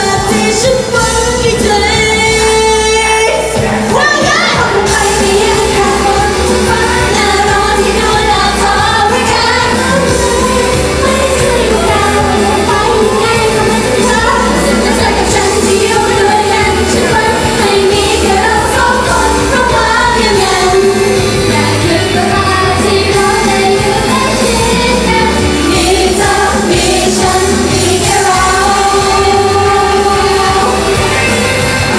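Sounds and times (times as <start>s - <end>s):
pop backing music: 0.0s - 31.9s
women singing pop song: 0.0s - 31.9s.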